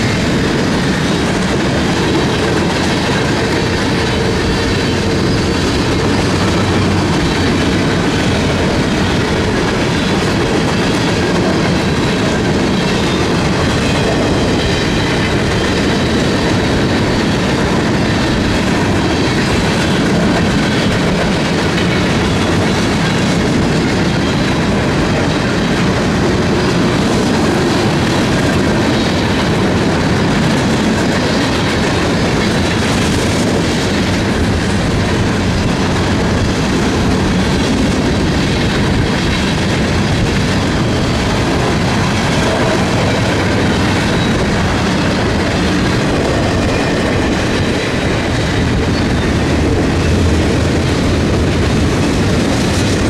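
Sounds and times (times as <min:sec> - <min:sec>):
train wheels rumbling and clattering: 0:00.0 - 0:53.0.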